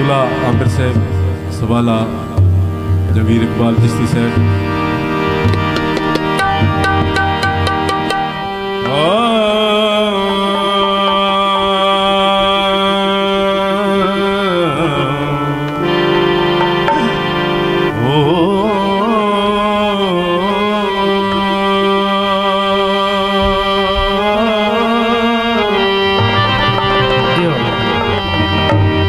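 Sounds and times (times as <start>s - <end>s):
man singing long wordless notes: 0.0s - 5.4s, 8.2s - 29.0s
harmonium chords: 0.0s - 29.0s.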